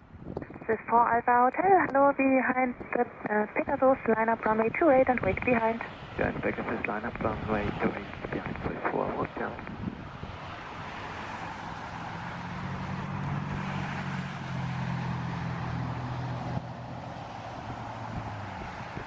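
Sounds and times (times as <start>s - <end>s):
jet airliner engines running: 0.0s - 19.0s.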